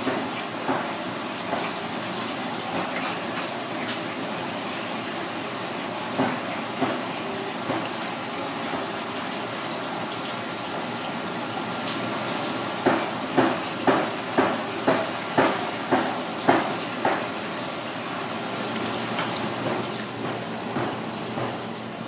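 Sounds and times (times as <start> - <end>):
tap water running: 0.0 - 22.0.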